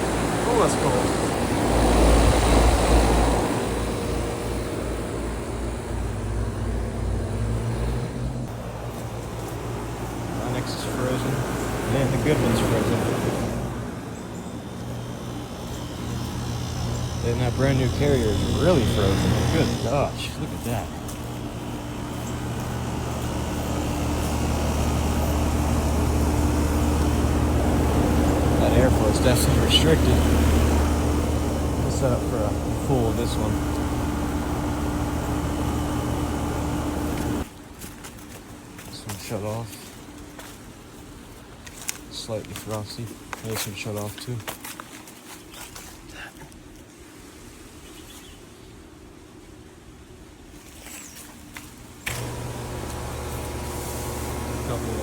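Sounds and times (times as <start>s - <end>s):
heat pump hum and fan noise: 0.0s - 55.0s.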